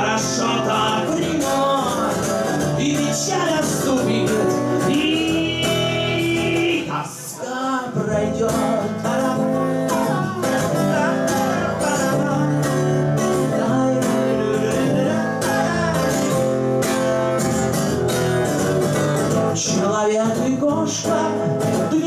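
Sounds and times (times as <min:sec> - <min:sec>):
lap guitar gliding lead notes: 0:00.0 - 0:07.4, 0:08.0 - 0:22.0
acoustic guitar strumming: 0:00.0 - 0:22.0.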